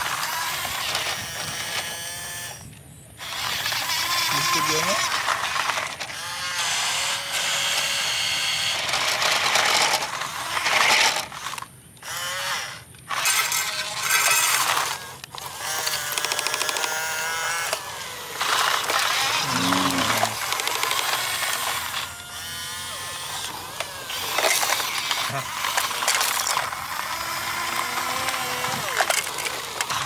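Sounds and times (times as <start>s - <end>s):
small electric motors whirring: 0.0s - 30.0s.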